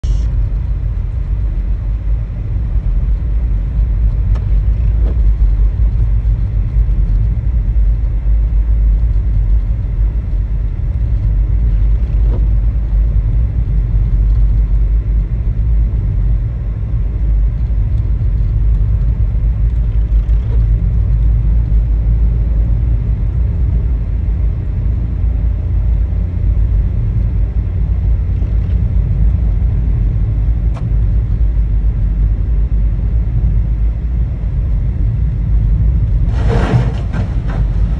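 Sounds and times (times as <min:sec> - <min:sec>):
car cabin road rumble: 0:00.0 - 0:37.9.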